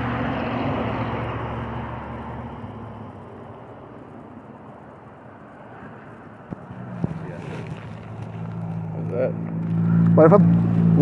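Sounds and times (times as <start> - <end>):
passing motor vehicle: 0.0 - 11.0.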